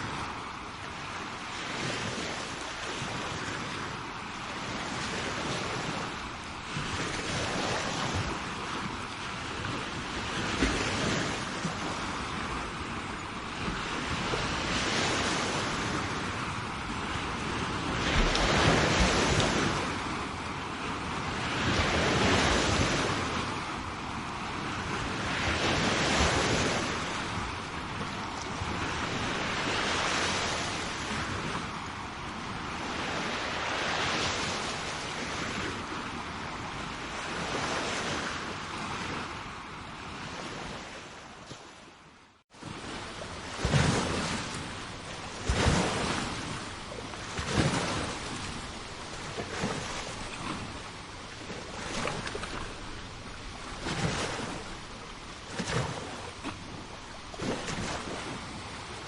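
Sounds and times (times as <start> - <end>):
sea waves breaking on shore: 0.0 - 59.0
wind noise on microphone: 0.0 - 59.0.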